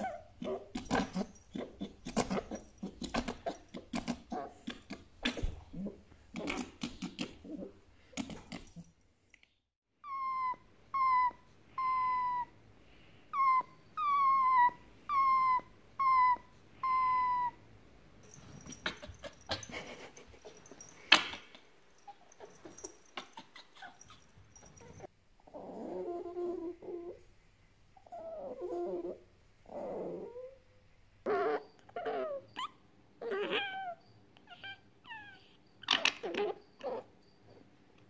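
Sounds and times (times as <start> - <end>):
fox whining: 0.0 - 7.8, 10.0 - 12.6, 13.3 - 17.6, 18.3 - 27.2, 28.0 - 30.6, 31.2 - 37.6.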